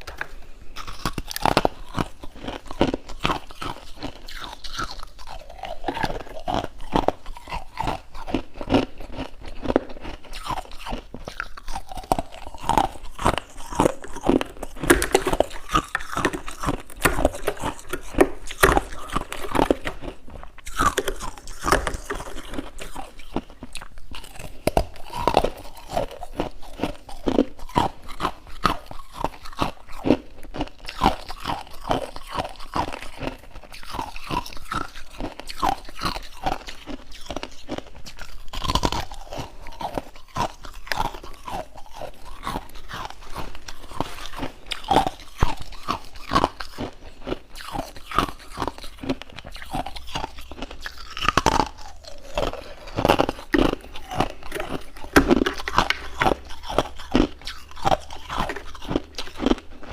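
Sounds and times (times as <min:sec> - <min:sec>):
chewing crunchy frost: 0:00.0 - 0:59.9.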